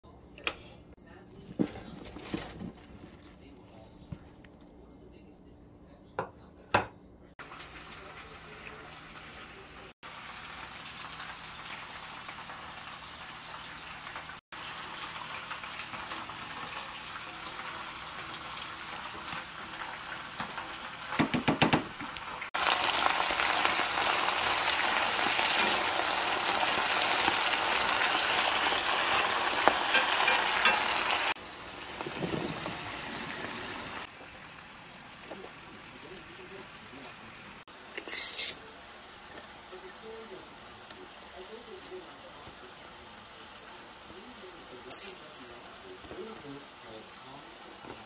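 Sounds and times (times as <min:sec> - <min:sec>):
vegetables sizzling in pan: 0:07.4 - 0:48.0.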